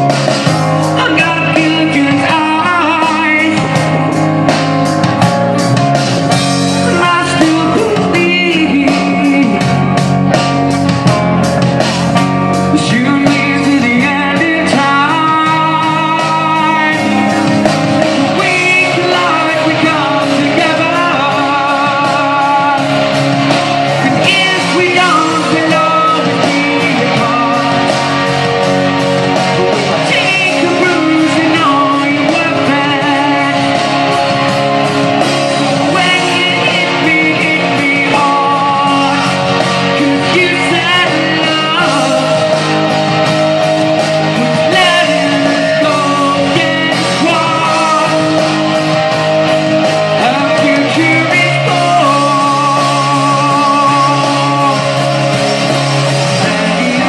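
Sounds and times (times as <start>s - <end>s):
man singing into microphone: 0.0s - 4.2s, 6.7s - 10.3s, 12.5s - 57.0s
loud backing music: 0.0s - 57.0s.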